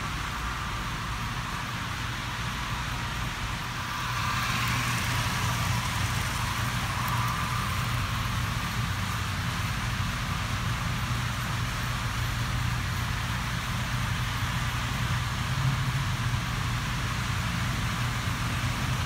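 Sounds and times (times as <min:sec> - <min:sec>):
model railroad hum and hiss: 0:00.0 - 0:19.0.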